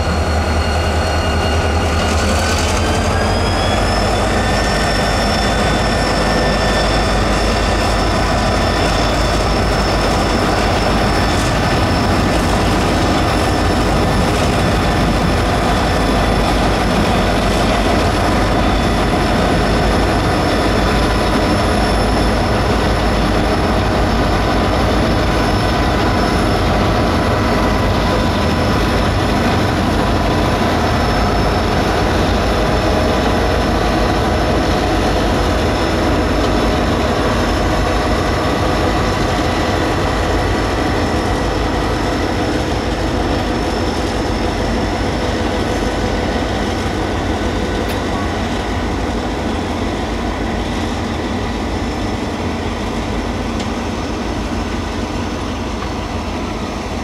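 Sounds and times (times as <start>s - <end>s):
locomotive engines rumbling: 0.0s - 57.0s
train carriages rolling by: 0.0s - 57.0s.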